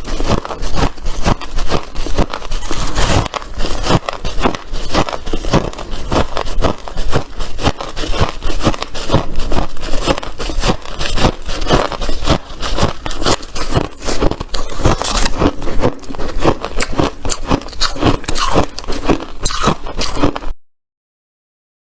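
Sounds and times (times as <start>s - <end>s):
ice crunching and scraping: 0.0s - 20.6s.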